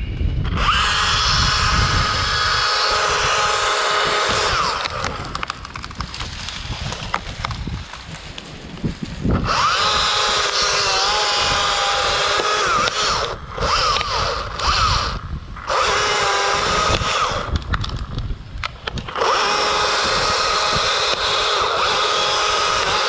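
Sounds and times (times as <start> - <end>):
chainsaw revving: 0.4 - 18.0, 18.8 - 23.0.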